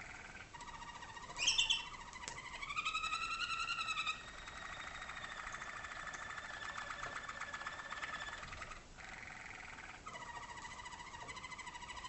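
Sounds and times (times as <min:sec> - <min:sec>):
canary rolling trill: 0:00.0 - 0:12.0.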